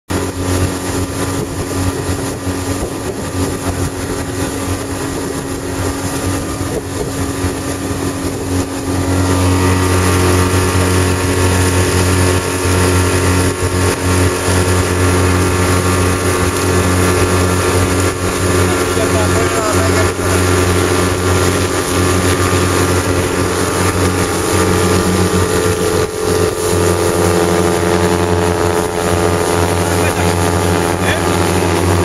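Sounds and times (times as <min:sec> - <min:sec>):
motorboat engine running: 0:00.1 - 0:32.0
rushing water: 0:00.1 - 0:32.0
wind: 0:00.1 - 0:32.0.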